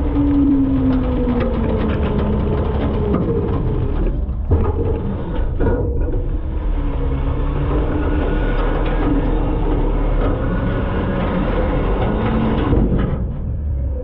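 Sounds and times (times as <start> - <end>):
garbage truck rumbling: 0.0 - 14.0.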